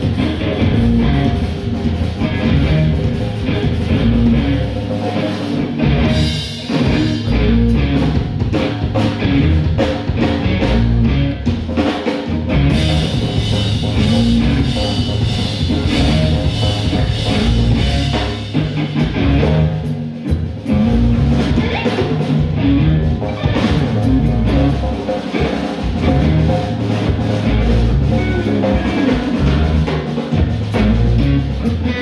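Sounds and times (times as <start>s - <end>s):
bass guitar: 0.0s - 32.0s
drums: 0.0s - 32.0s
electric guitar: 0.0s - 32.0s.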